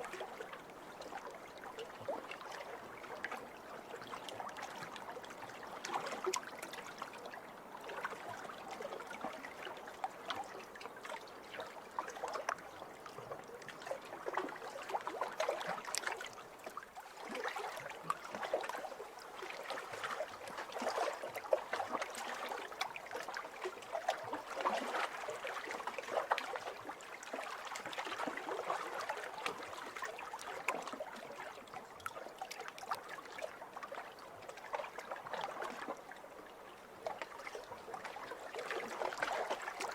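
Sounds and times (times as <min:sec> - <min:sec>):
small waves lapping over pebbles: 0:00.1 - 0:39.9.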